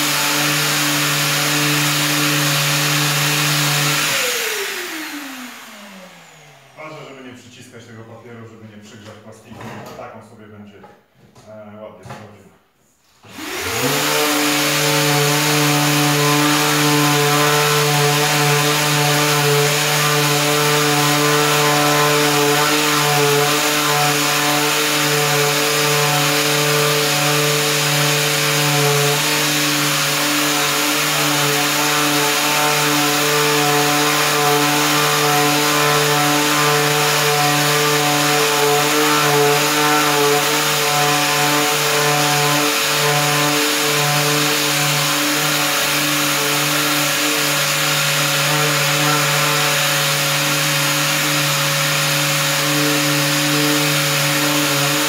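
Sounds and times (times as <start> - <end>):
power sander on plastic: 0.0 - 6.9, 13.2 - 55.0.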